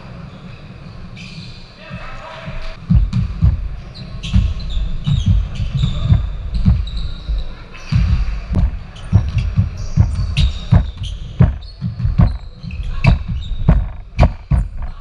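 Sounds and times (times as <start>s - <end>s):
sneaker squeaks: 0.2s - 2.1s, 3.8s - 15.0s
basketballs bouncing on wooden floor: 2.7s - 15.0s.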